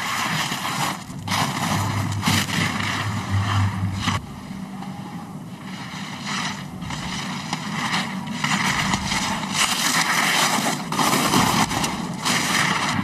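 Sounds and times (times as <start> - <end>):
skis scraping on hard snow: 0.0 - 4.3, 5.6 - 13.0.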